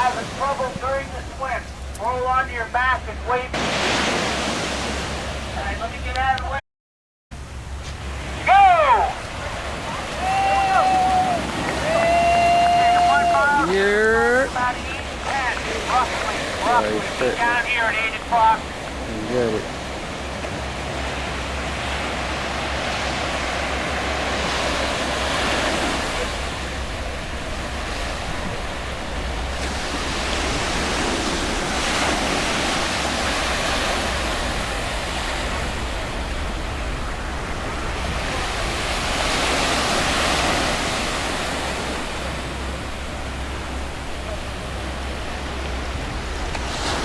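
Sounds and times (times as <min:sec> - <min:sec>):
ocean waves breaking: 0:00.0 - 0:06.6, 0:07.4 - 0:47.0.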